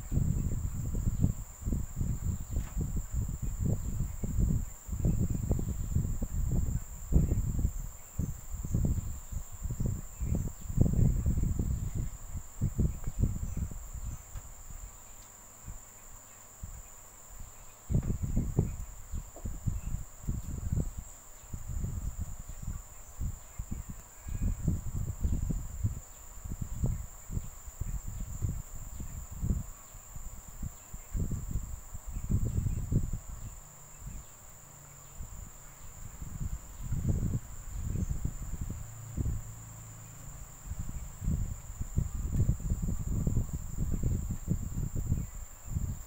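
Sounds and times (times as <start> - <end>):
steady high-pitched whine: 0.0 - 46.0.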